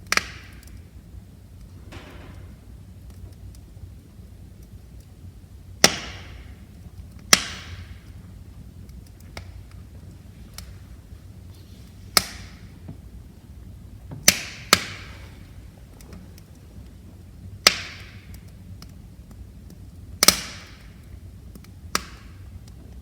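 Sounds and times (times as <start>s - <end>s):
burning logs popping: 0.0s - 23.0s
fire ticking: 0.0s - 23.0s.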